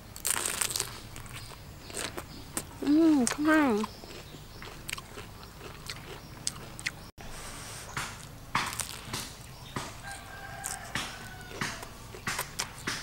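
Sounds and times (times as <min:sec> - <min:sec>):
crunchy spring roll chewing: 0:00.0 - 0:07.1, 0:08.0 - 0:13.0.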